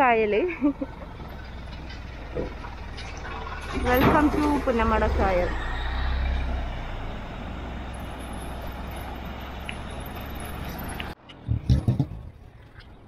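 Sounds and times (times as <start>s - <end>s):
truck engine running: 0.0s - 11.3s.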